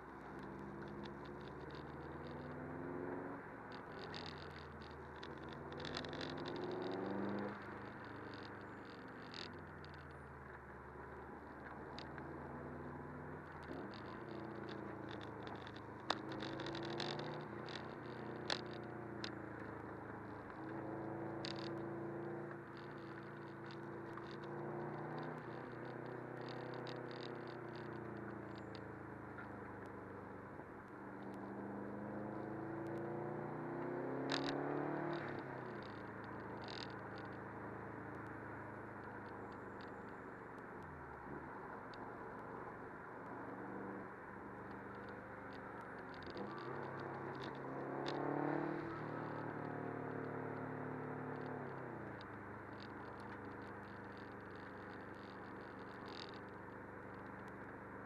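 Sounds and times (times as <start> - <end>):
car engine accelerating: 0.0 - 58.0
road and tyre noise: 0.0 - 58.0
sharp clicks: 0.3 - 30.2, 31.1 - 42.5, 44.6 - 57.7.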